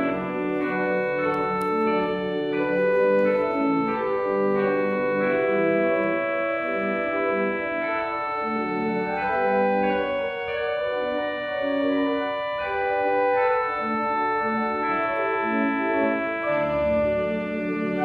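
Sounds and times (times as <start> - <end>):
church organ chords: 0.0 - 18.0.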